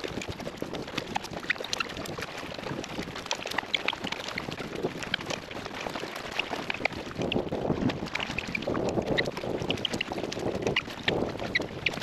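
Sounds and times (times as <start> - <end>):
paddle splashing water: 0.0 - 12.0
wind buffeting microphone: 0.0 - 12.0.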